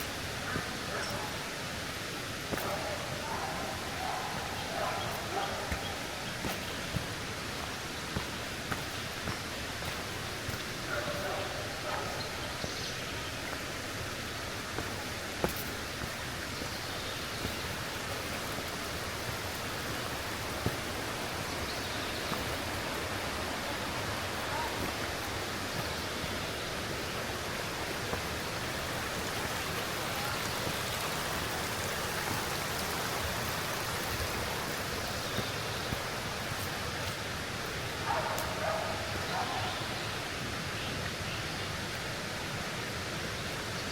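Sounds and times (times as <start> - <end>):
flowing water rushing: 0.0 - 43.9.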